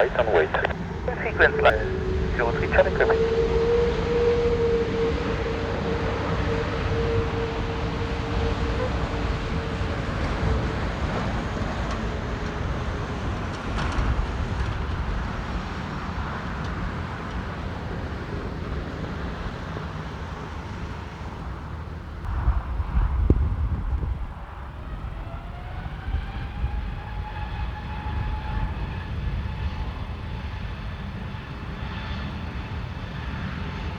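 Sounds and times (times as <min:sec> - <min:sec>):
jet engine whine: 0:00.0 - 0:33.9
jet engines rumbling: 0:00.0 - 0:33.9.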